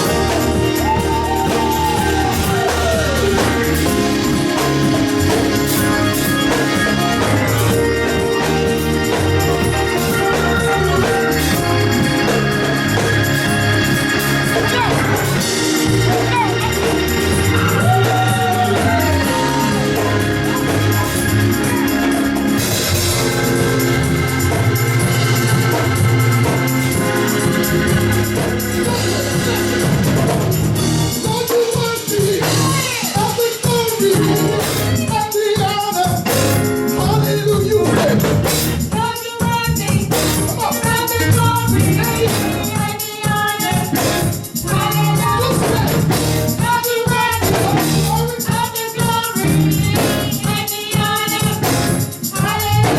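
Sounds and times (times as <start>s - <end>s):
gospel singing: 0.0s - 52.9s
organ chords: 0.0s - 52.9s
steady drum beat: 0.0s - 52.9s.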